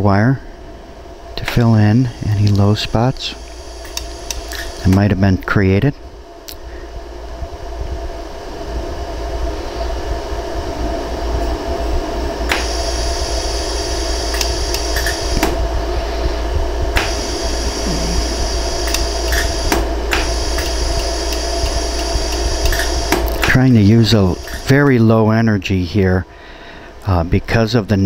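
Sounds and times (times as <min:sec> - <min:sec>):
laser welder humming: 0:01.0 - 0:07.3, 0:08.1 - 0:25.3.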